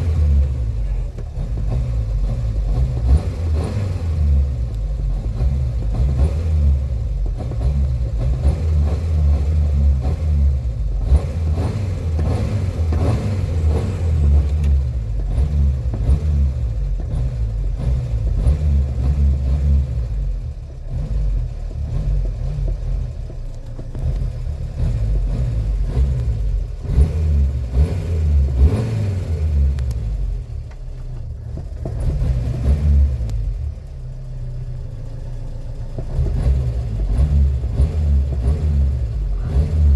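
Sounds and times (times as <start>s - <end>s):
car engine revving roughly: 0.0s - 39.9s.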